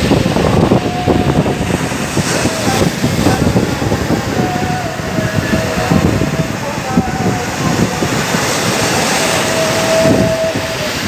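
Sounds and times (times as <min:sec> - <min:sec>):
sea surf breaking: 0:00.0 - 0:11.0
wind buffeting microphone: 0:00.0 - 0:11.0.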